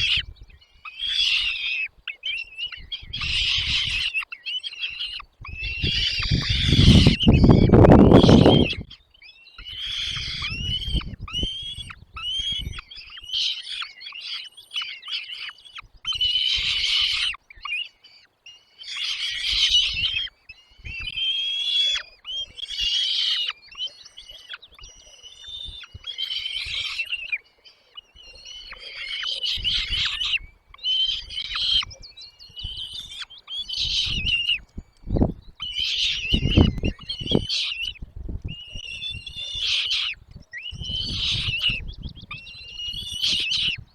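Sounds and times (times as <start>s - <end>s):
nestlings chirping: 0.0s - 9.0s, 9.6s - 43.9s.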